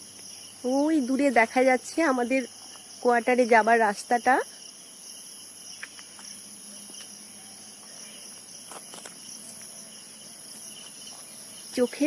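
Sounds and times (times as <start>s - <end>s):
crickets chirping chorus: 0.0s - 12.0s.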